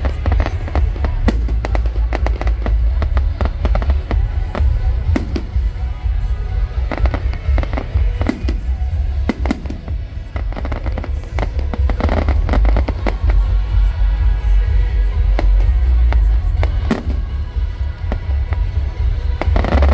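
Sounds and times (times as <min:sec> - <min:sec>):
fireworks bangs and crackles: 0:00.0 - 0:19.9
low rumble: 0:00.0 - 0:19.9.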